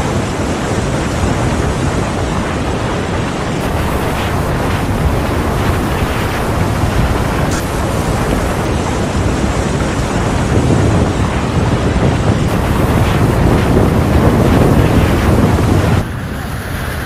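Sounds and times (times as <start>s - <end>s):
rushing flood water roar: 0.0s - 17.0s
wind buffeting microphone: 0.0s - 17.0s.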